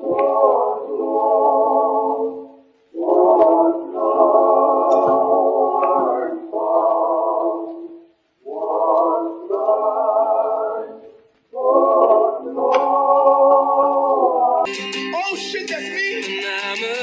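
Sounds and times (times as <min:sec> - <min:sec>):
choir singing held chords: 0:00.0 - 0:14.8.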